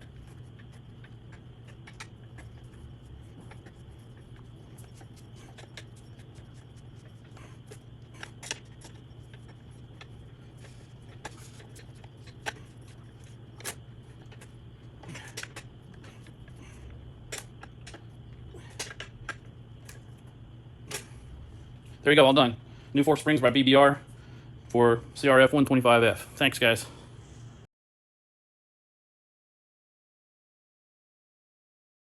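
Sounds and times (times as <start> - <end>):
steady low hum: 0.0 - 27.7.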